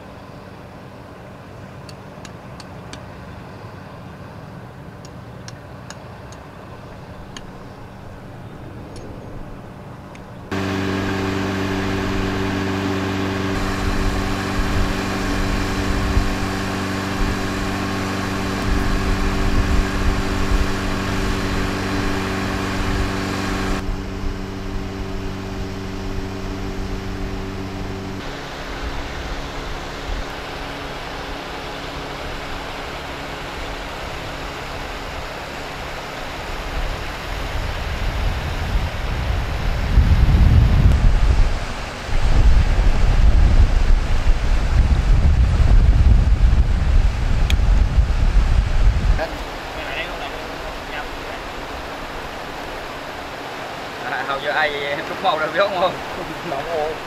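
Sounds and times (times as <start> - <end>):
aerator motors humming: 0.0 - 57.0.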